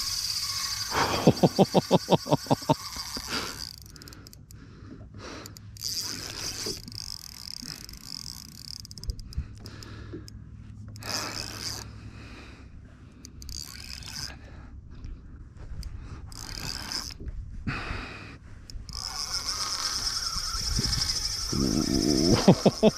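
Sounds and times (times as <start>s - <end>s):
fishing reel clicking: 0.0s - 12.1s, 13.1s - 14.6s, 15.7s - 17.3s, 18.6s - 22.9s
reel and rod scraping: 0.0s - 12.1s, 13.1s - 14.6s, 15.7s - 17.4s, 18.6s - 22.9s.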